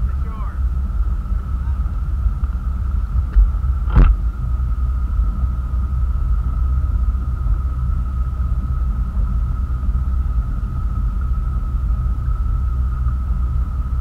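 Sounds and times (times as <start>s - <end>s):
high whine: 0.0s - 14.0s
motorboat engine rumble: 0.0s - 14.0s.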